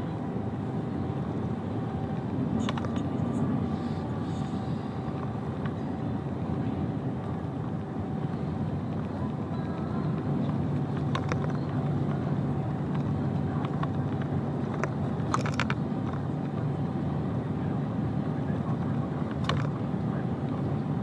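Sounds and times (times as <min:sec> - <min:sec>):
lorry engine and road noise: 0:00.0 - 0:21.0.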